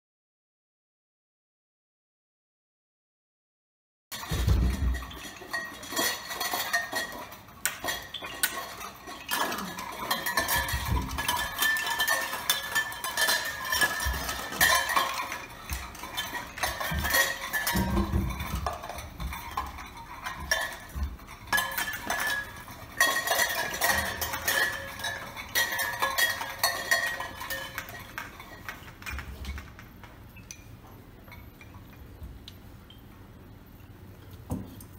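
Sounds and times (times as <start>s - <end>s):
hanging cans and cups clattering: 4.1s - 32.2s.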